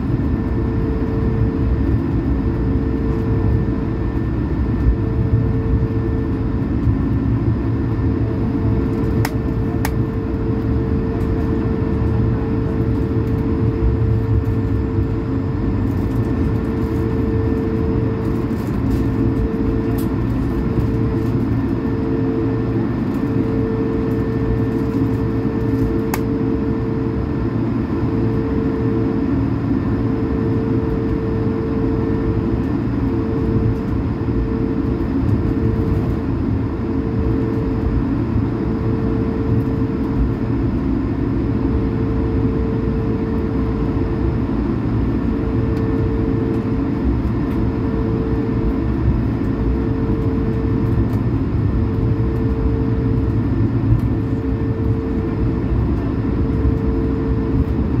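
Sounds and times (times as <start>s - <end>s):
jet engines low rumble: 0.0s - 58.0s
steady hum: 0.0s - 58.0s.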